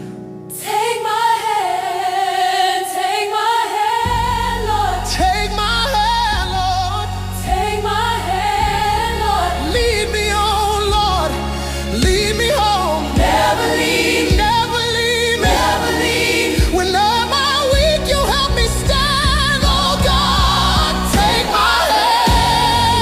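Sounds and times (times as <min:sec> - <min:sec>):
wordless choir vocals: 0:00.5 - 0:23.0
bass and full band: 0:04.1 - 0:23.0.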